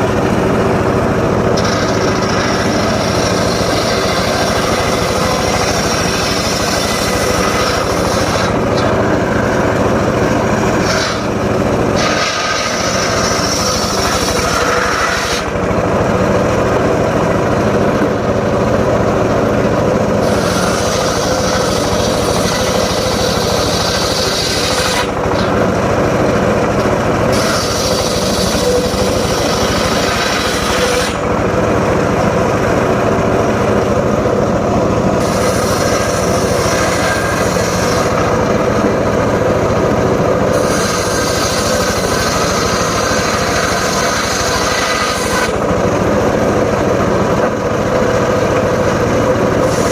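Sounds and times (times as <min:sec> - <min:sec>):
circular saw cutting wood: 0:00.0 - 0:49.9.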